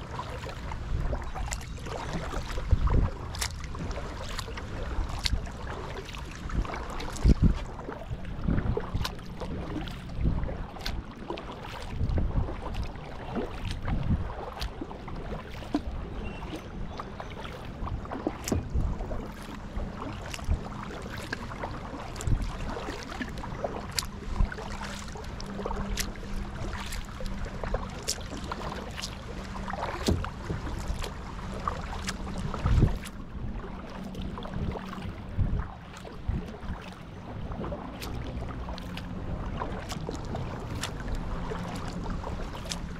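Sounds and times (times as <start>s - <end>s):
paddle splashing in water: 0.0s - 42.9s.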